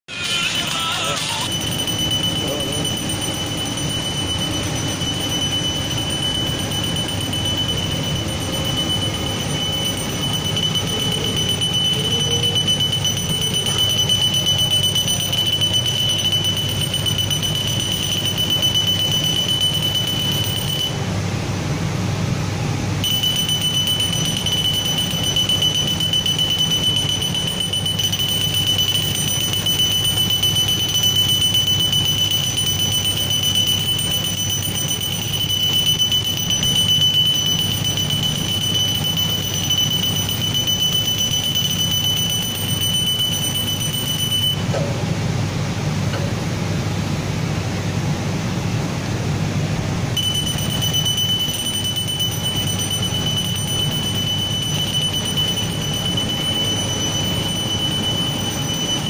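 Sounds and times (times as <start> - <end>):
high-pitched laser machine whine: 0.1 - 21.9, 22.6 - 45.3, 50.1 - 59.0
low machine and fan rumble: 0.1 - 59.0.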